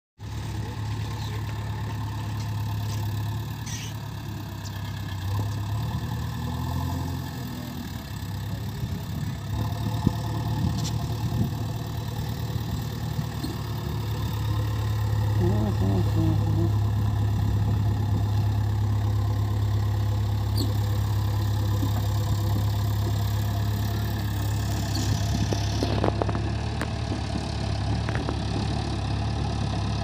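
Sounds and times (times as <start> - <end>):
diesel engine running: 0.2 - 30.0.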